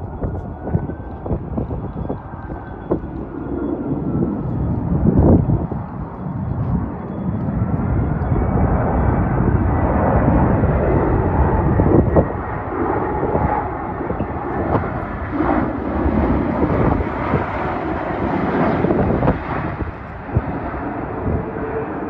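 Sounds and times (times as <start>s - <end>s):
jet engines rumbling overhead: 0.0s - 22.0s.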